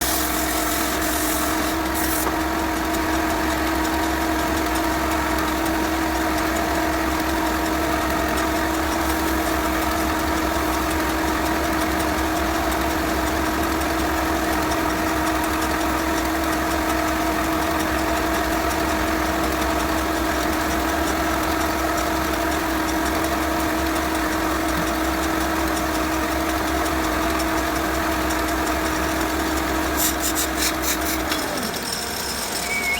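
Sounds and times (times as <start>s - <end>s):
wood lathe motor humming: 0.0s - 32.9s.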